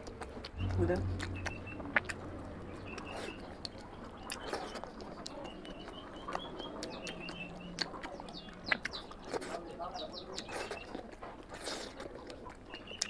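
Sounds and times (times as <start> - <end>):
wet chewing and lip-smacking: 0.0 - 13.0
small bird chirping: 0.5 - 11.0, 12.6 - 13.0.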